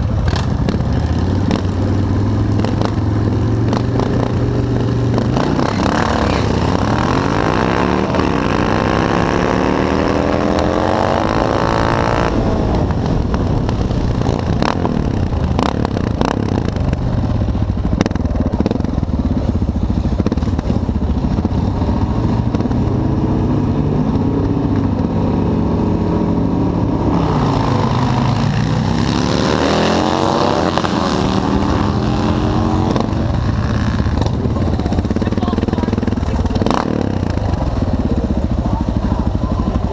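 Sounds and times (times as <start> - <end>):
motorcycle engines accelerating: 0.0 - 39.9.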